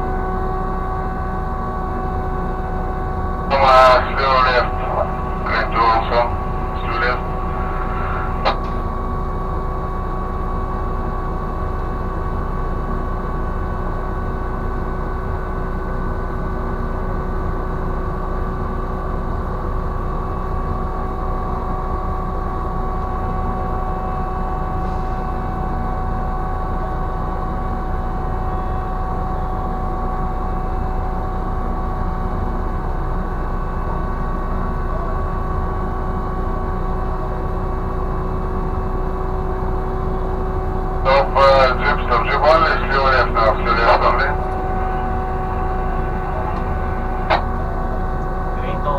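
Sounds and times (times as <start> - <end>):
crane machinery humming: 0.0 - 48.9.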